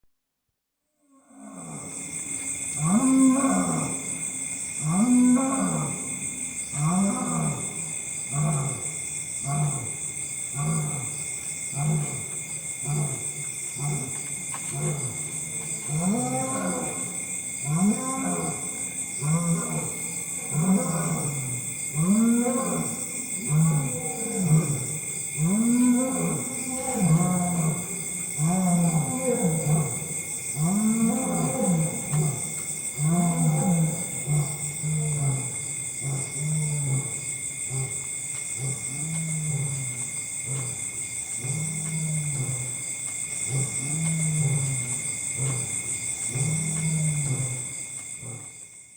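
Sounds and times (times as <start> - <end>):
lion roaring: 4.8 - 42.8, 43.4 - 48.5.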